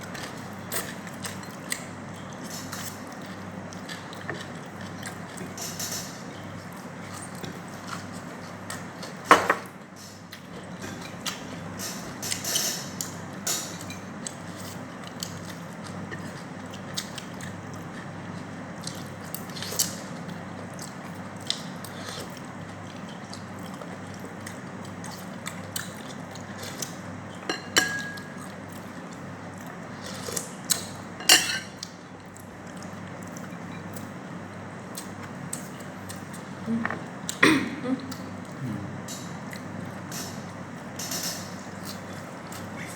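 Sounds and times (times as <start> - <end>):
chewing: 0.0 - 9.3, 10.1 - 36.6, 41.6 - 42.9
steady low hum: 0.0 - 42.9.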